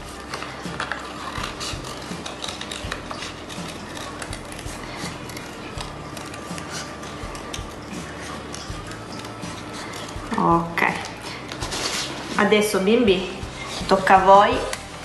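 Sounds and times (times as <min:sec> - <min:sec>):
card rustling: 0:00.0 - 0:12.5.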